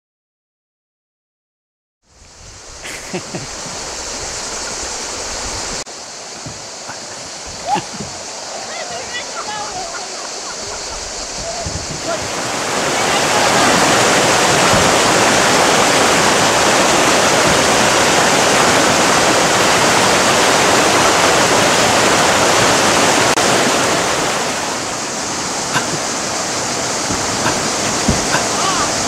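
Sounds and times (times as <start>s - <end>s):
river rapids rushing over rocks: 2.3s - 29.0s.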